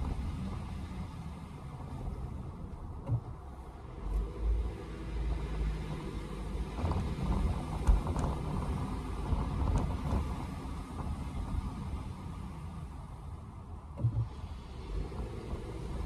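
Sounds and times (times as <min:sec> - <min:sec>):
tyres rumbling on wet pavement: 0:00.0 - 0:16.0.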